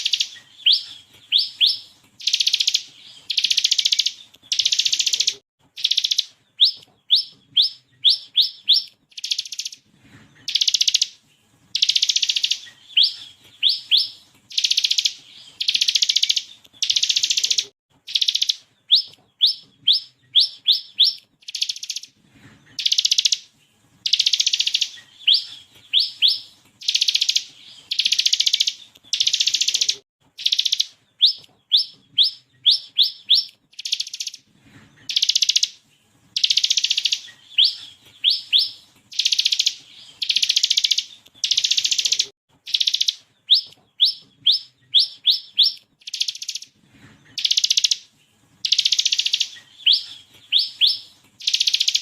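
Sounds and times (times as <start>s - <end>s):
bird singing buzzy rattles: 0.0s - 9.8s, 10.4s - 52.0s.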